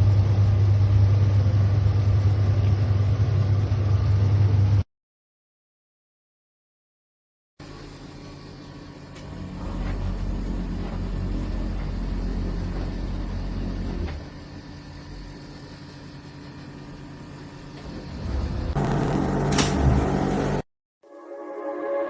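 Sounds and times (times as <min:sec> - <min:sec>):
tumble dryer running: 0:00.0 - 0:04.8, 0:07.6 - 0:20.6.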